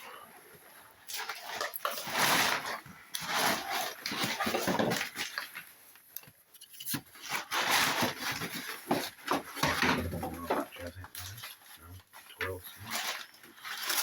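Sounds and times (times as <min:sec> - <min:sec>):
packaging rustling and scraping: 0:00.1 - 0:14.0.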